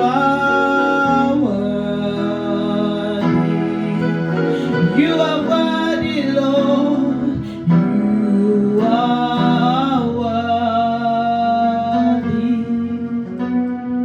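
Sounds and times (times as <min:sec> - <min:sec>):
person singing long held notes: 0:00.0 - 0:13.9
instrumental accompaniment: 0:00.0 - 0:14.0.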